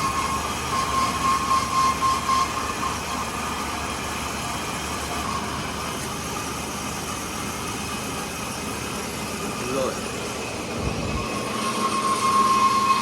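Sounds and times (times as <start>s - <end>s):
pulsing high whine: 0.0s - 13.0s
workshop machinery hum: 0.0s - 13.0s.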